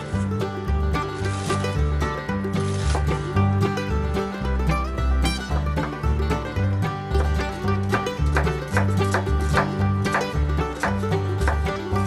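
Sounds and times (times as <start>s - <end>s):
bouncy bass line: 0.0s - 12.0s
plucked string notes: 0.0s - 12.0s.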